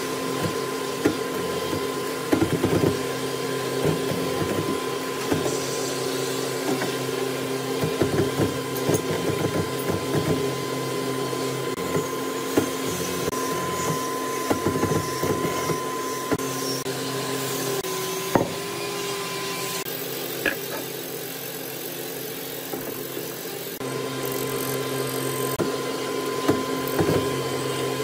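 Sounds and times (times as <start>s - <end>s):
machine motor whining: 0.0s - 28.0s.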